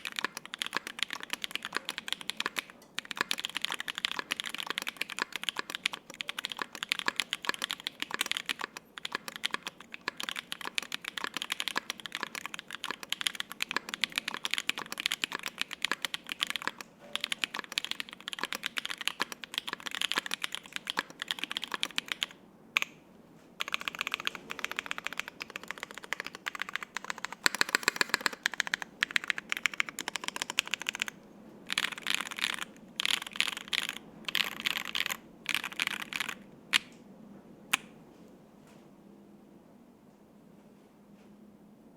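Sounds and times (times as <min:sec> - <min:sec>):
mechanical keyboard typing: 0:00.0 - 0:23.0, 0:23.6 - 0:36.9.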